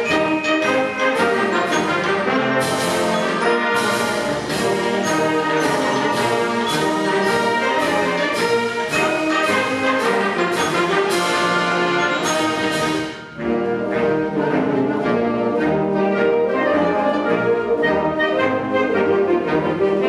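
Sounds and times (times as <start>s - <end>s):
concert band playing: 0.0s - 20.0s.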